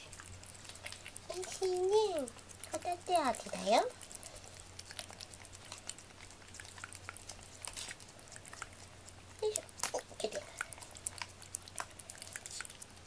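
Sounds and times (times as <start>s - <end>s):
cat licking and chewing: 0.0s - 13.0s.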